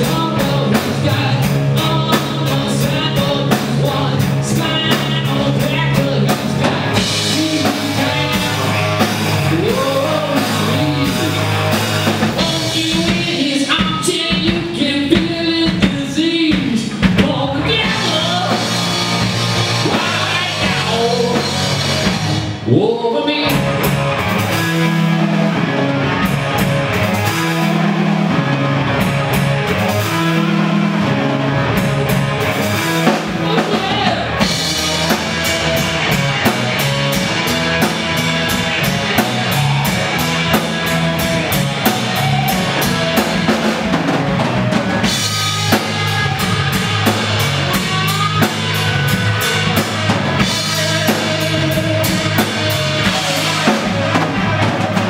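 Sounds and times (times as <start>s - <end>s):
electric bass: 0.0s - 55.0s
electric guitar: 0.0s - 55.0s.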